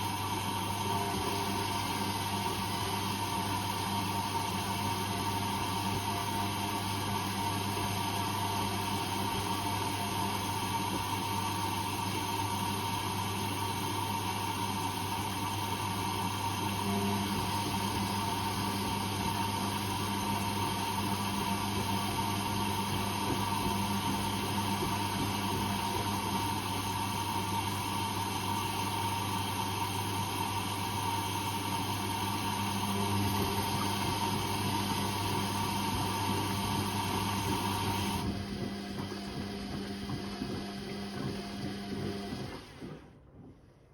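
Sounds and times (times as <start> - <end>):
washing machine motor hum: 0.0 - 43.9.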